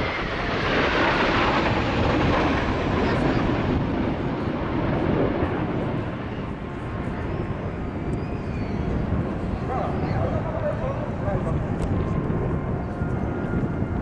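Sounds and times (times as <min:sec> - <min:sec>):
jet aircraft passing over: 0:00.0 - 0:14.0.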